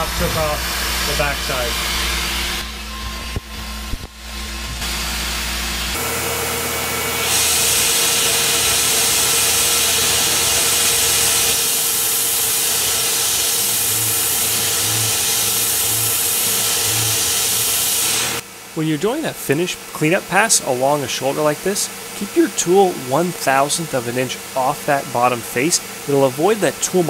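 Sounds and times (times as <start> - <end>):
loud high hiss: 0.0 - 2.6, 4.8 - 27.0
milling machine whine: 0.0 - 27.0.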